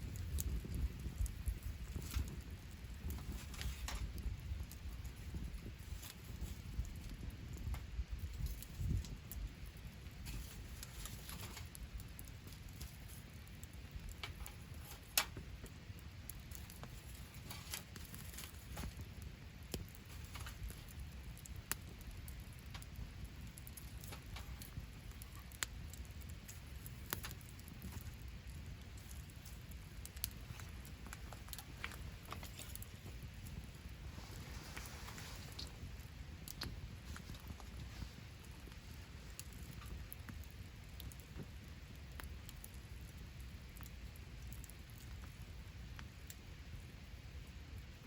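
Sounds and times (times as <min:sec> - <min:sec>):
fire popping: 0:00.0 - 0:48.0
low background noise: 0:00.0 - 0:48.0
wood campfire crackling: 0:00.0 - 0:48.0.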